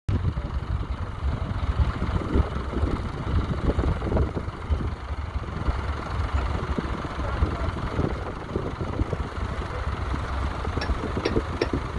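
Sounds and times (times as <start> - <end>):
tractor engine chugging: 0.1 - 11.9.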